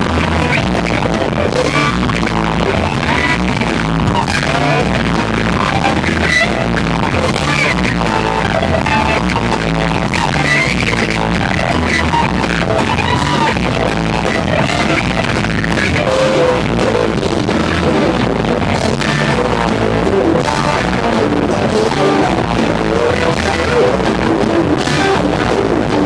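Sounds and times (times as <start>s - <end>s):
electric guitar lead: 0.0s - 26.0s
live rock band playing: 0.0s - 26.0s.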